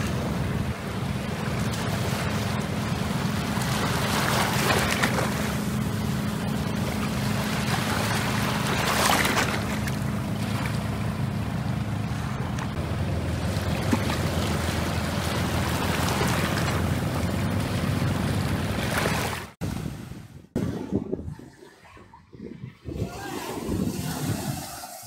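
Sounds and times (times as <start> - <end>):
small waves washing ashore: 0.0 - 25.0
wind rumble on microphone: 0.0 - 25.0.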